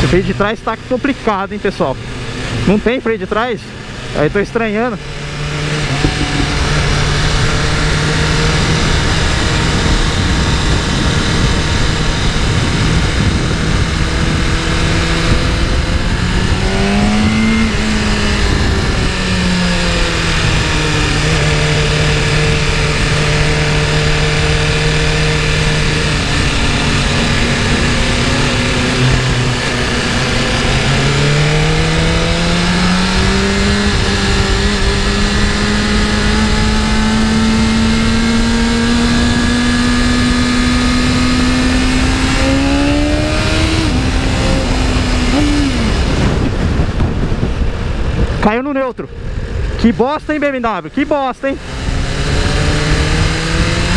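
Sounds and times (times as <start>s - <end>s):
motorcycle engine running hard: 0.0s - 53.9s
wind rushing past microphone: 3.7s - 53.9s.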